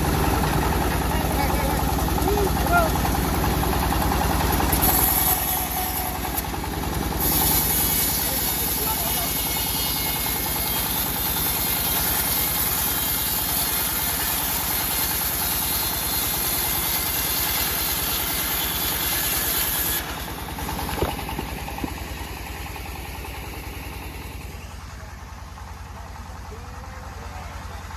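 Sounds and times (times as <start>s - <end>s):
engine running: 0.0s - 27.9s.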